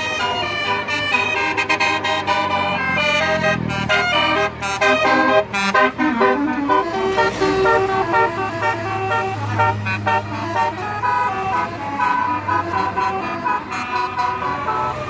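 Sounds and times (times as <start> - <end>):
bus engine hum: 0.0 - 15.0
musical air horn melody: 0.0 - 15.0.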